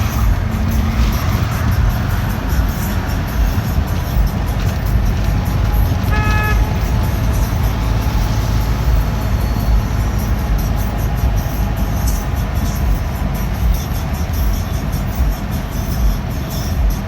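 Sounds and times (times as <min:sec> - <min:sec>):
road traffic rumble: 0:00.0 - 0:17.0
vehicle horn tooting: 0:02.5 - 0:17.0.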